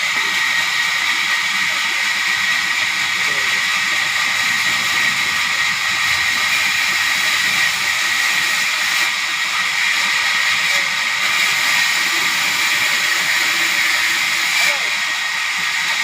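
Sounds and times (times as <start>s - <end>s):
sawmill saw cutting timber: 0.0s - 16.0s.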